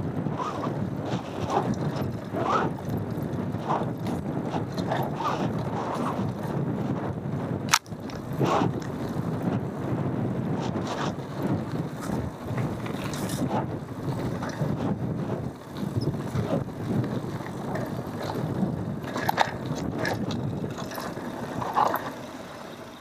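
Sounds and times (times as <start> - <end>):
bike clicks and rattles: 0.0 - 23.0
bike tyre rumble on dirt: 0.0 - 23.0.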